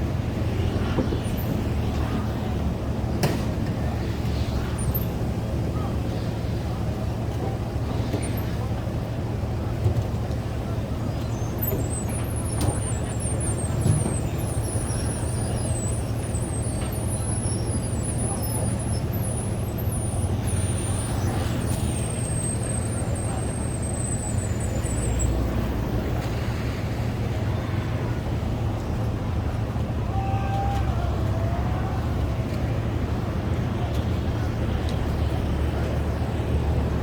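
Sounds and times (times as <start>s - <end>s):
engines droning: 0.0s - 37.0s.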